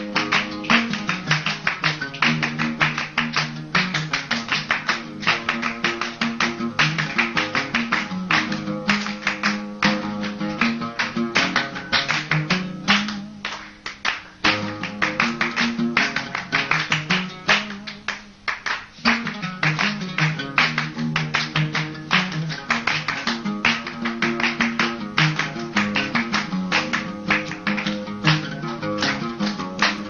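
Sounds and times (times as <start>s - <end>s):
oud plucked melody: 0.0s - 13.5s, 14.4s - 18.2s, 19.0s - 30.0s.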